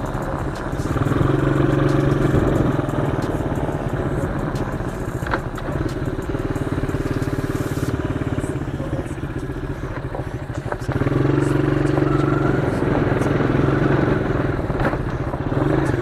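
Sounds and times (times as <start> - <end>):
quad engine pulsing: 0.0 - 16.0.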